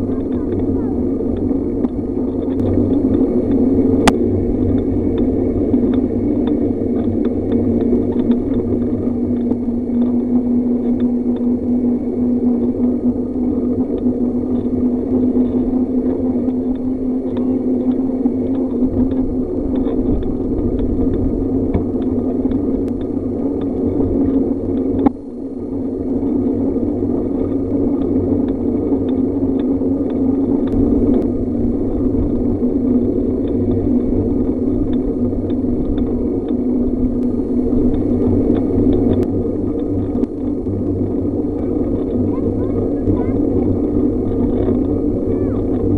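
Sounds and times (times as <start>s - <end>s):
bicycle tyres rolling hum: 0.0s - 45.9s.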